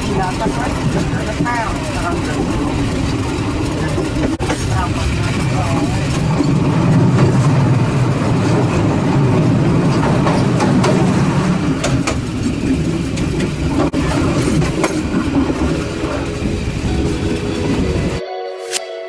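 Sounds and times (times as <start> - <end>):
train rumbling along track: 0.0 - 18.2
wheels clicking over rail joints: 0.0 - 18.2.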